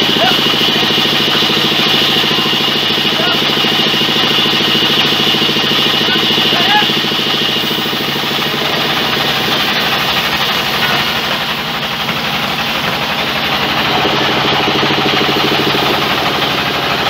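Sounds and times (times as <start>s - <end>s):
band saw cutting log: 0.0s - 17.0s.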